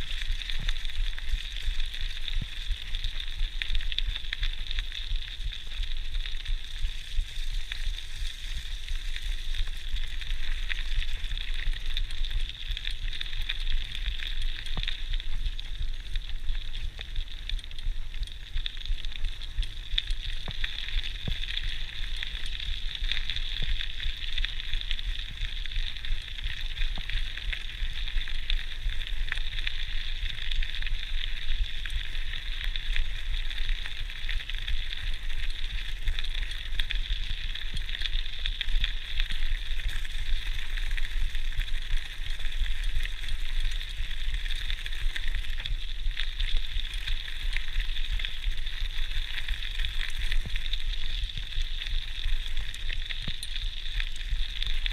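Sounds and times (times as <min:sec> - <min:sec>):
bike rattles and ticks: 0:00.0 - 0:54.9.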